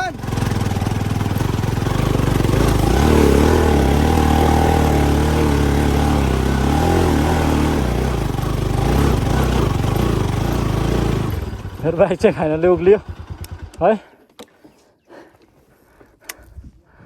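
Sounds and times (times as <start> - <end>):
motorcycle engine revving: 0.0 - 14.1.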